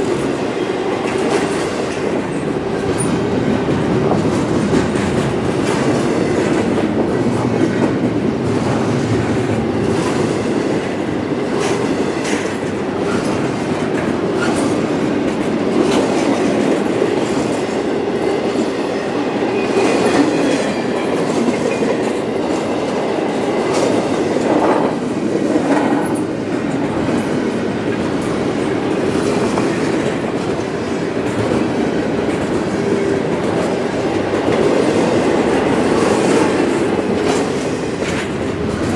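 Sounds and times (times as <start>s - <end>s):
rumble of train wheels on rail: 0.0s - 38.9s.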